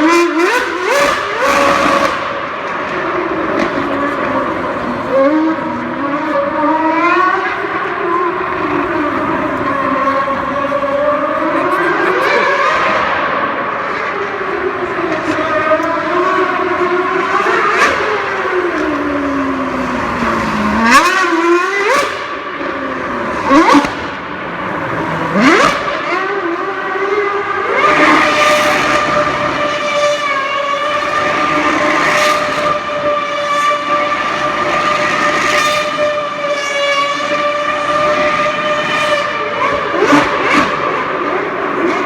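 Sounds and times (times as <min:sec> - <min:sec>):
racing car engine revving: 0:00.0 - 0:42.0.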